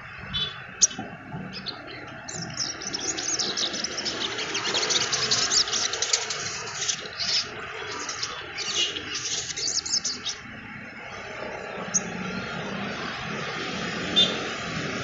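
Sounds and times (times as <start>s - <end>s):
bird chirping and twittering: 0.1s - 12.9s.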